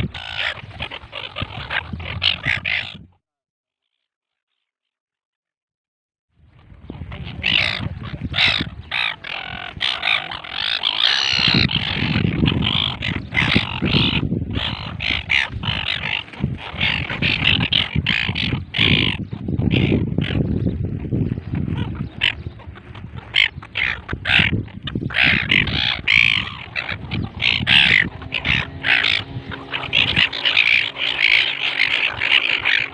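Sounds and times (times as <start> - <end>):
gulls squawking: 0.0 - 3.1, 6.6 - 32.9.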